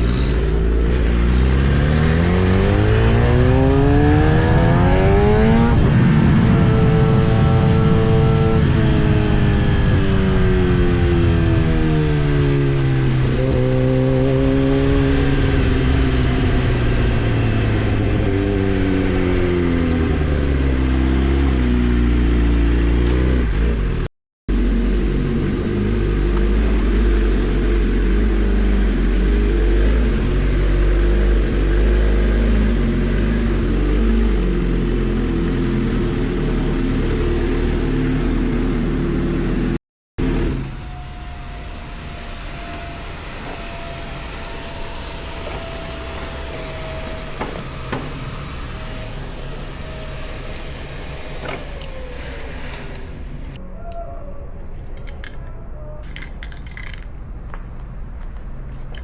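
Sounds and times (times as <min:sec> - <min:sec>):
motorcycle engine revving: 0:00.0 - 0:53.2.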